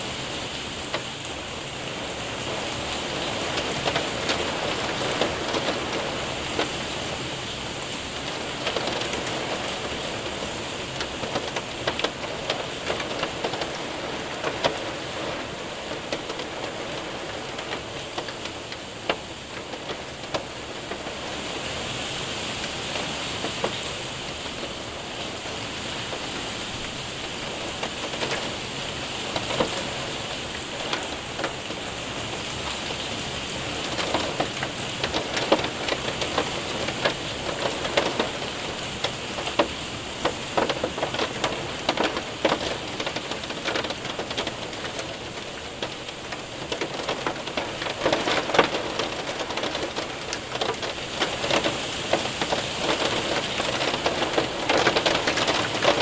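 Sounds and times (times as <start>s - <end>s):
hail ticking on window and roof: 0.0s - 56.0s
rain hissing: 0.0s - 56.0s.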